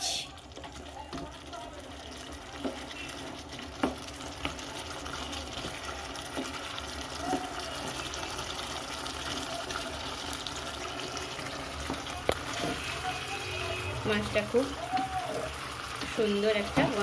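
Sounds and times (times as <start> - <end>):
curry bubbling in a pan: 0.0 - 17.0.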